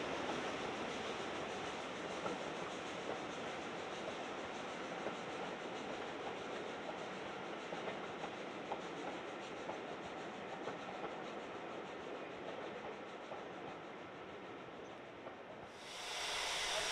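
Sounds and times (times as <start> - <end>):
train rumbling: 0.0 - 16.9.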